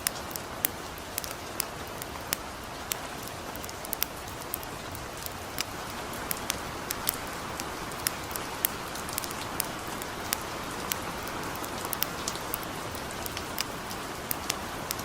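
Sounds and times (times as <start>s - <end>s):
campfire popping and crackling: 0.0s - 15.0s
gentle rain hissing: 0.0s - 15.0s.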